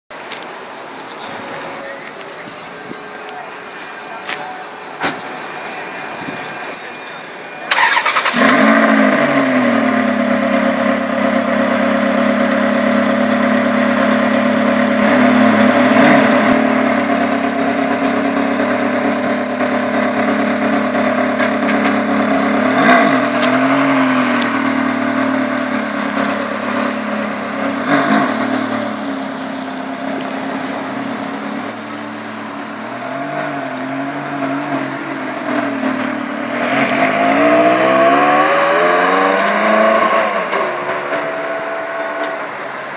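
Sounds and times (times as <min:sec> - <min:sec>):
car engine starting and idling: 0:00.3 - 0:42.9
engine throttle blips: 0:02.1 - 0:42.7
car engine revving pulling away: 0:07.7 - 0:42.9.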